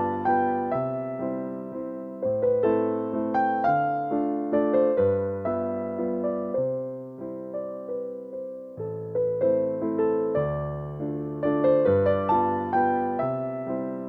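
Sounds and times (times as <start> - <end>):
gentle keyboard melody: 0.0 - 14.0.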